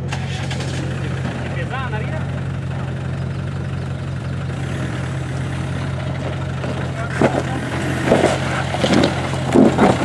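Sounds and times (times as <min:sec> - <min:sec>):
vehicle engine running at low pitch: 0:00.0 - 0:10.0.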